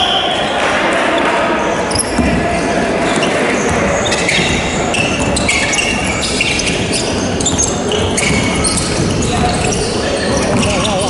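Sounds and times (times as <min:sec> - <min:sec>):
shoes squeaking on hardwood floor: 0:01.1 - 0:11.0.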